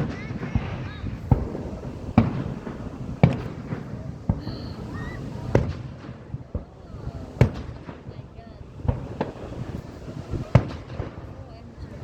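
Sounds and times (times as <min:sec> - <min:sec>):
fireworks bursting in sharp bangs: 0:00.0 - 0:12.0.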